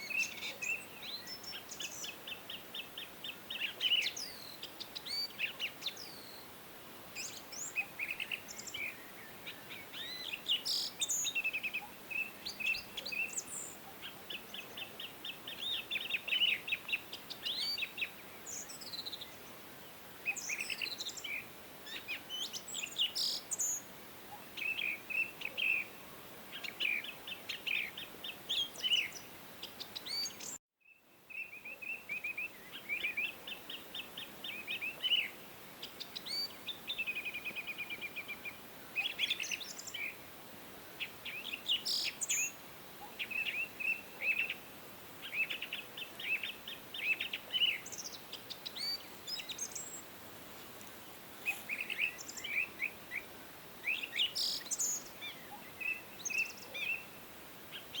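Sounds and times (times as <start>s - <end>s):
songbirds singing and calling: 0.0s - 40.4s, 41.0s - 58.0s
faint steady hiss: 0.0s - 58.0s.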